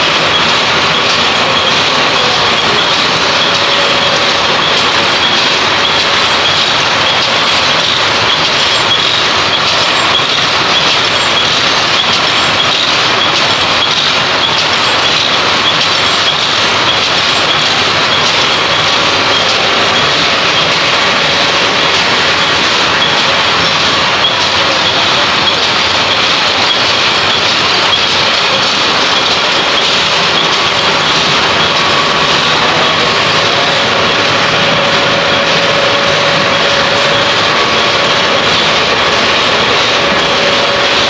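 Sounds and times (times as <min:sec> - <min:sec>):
power looms clattering: 0:00.0 - 0:41.0.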